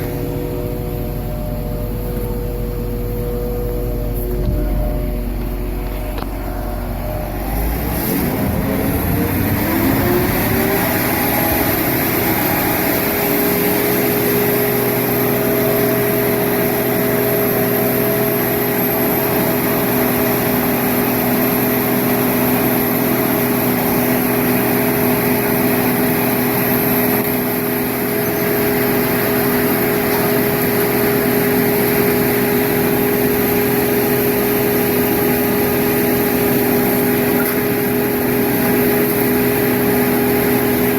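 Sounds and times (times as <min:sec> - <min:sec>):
engine throttling up: 0:00.0 - 0:40.9
faint high whine: 0:00.0 - 0:40.9.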